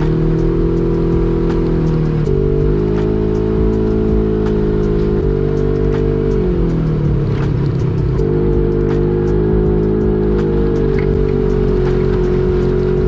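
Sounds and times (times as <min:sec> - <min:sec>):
music: 0:00.0 - 0:13.0
off-road vehicle engine running: 0:00.0 - 0:13.0.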